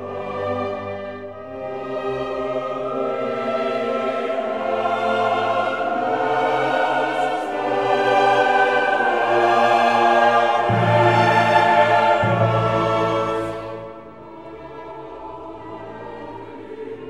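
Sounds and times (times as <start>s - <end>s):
choir holding long notes: 0.0s - 17.0s
orchestral film music: 0.0s - 17.0s.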